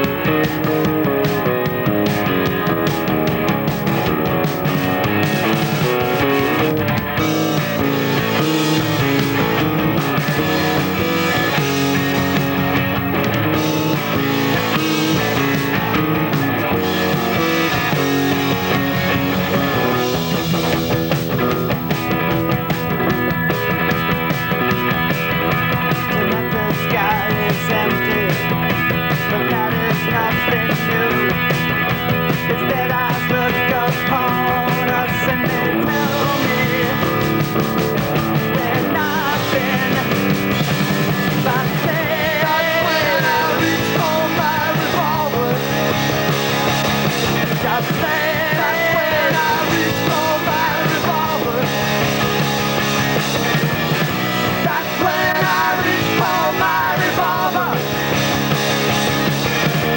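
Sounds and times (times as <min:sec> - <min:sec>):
rock music with guitars: 0:00.0 - 0:59.9.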